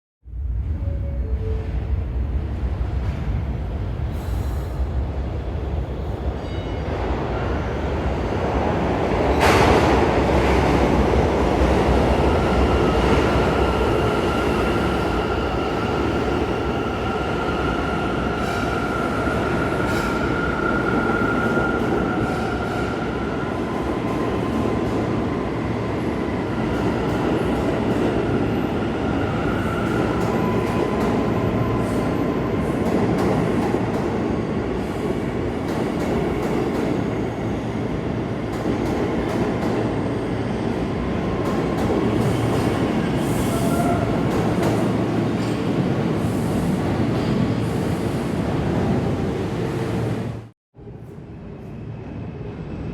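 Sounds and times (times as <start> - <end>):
subway train rumbling: 0.2 - 52.9.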